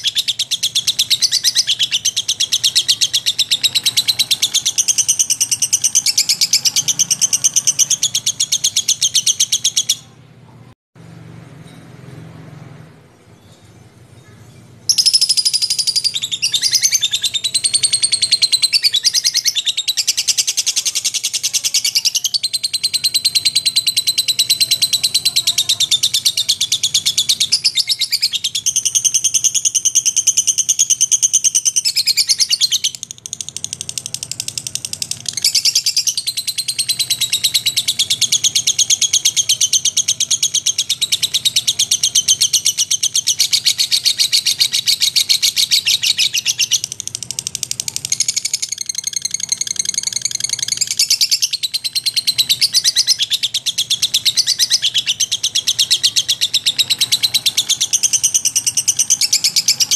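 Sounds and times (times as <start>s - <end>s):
lovebird chattering trill: 0.0s - 10.2s, 14.2s - 59.9s.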